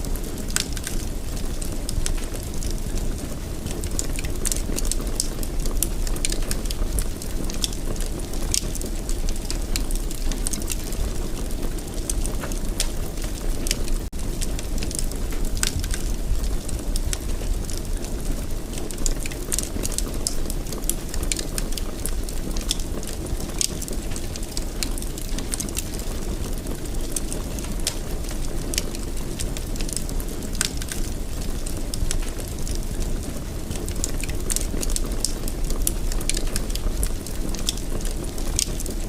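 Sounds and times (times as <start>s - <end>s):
fire crackling in fireplace: 0.0s - 39.0s.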